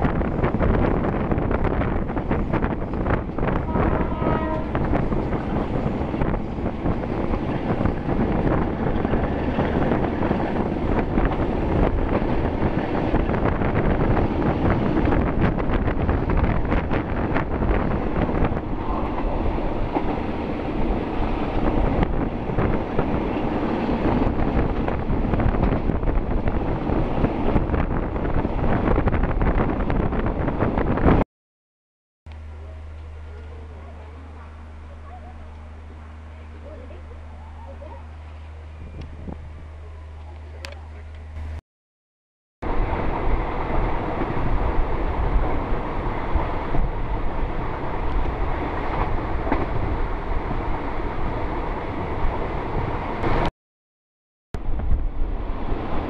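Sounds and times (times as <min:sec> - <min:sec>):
train carriage rumble: 0:00.0 - 0:31.2, 0:32.3 - 0:41.6, 0:42.6 - 0:53.5, 0:54.6 - 0:56.0.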